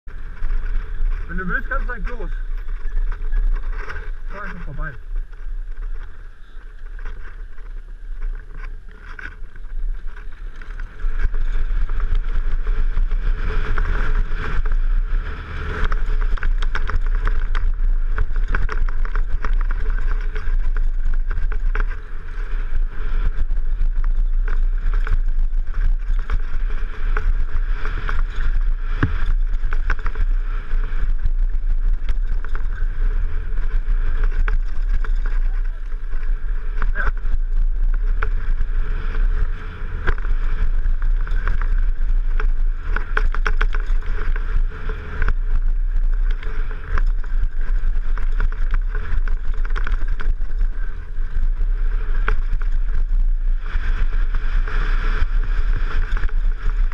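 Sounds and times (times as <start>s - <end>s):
wind rush on camera: 0.0s - 56.9s
bike clattering over rough ground: 0.1s - 56.9s.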